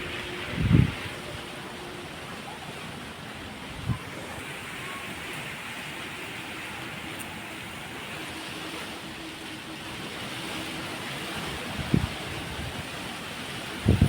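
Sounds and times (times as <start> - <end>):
rain: 0.0 - 14.0
wind: 0.0 - 14.0.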